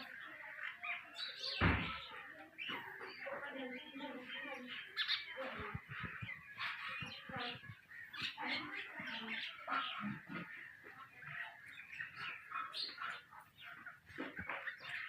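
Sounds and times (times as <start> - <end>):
songbirds singing and chirping: 0.0 - 15.0.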